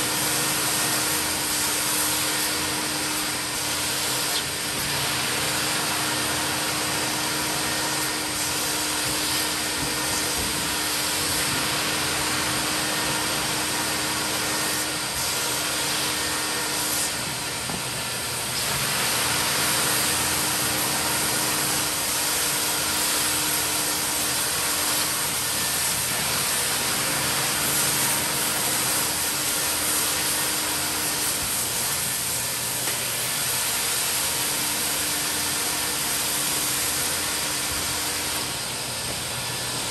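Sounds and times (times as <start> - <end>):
carpet extractor vacuum running: 0.0 - 39.9.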